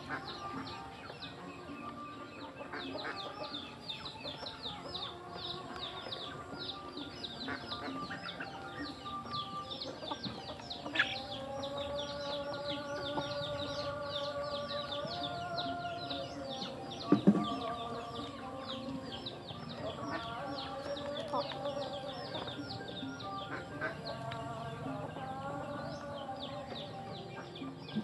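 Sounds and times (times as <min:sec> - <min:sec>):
chickens clucking: 0:00.0 - 0:28.0
chicks peeping: 0:00.0 - 0:28.0.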